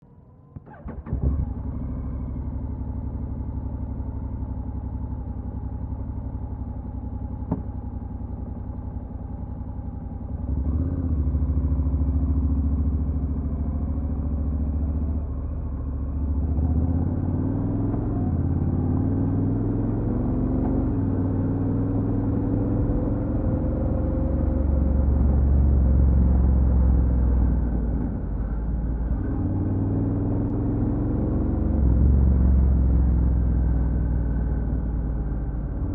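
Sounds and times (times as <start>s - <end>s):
motorcycle engine accelerating: 0.1s - 35.9s.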